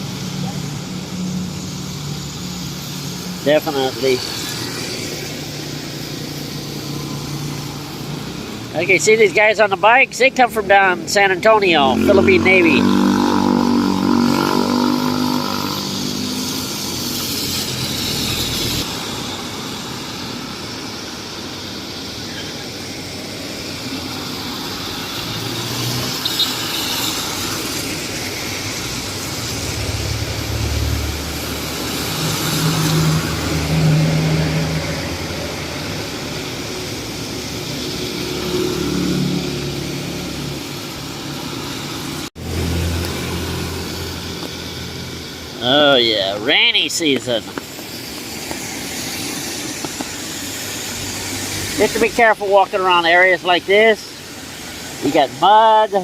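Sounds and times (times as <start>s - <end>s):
cars and motorcycles passing: 0.0s - 56.0s
rain and wet tyres hissing: 0.0s - 56.0s.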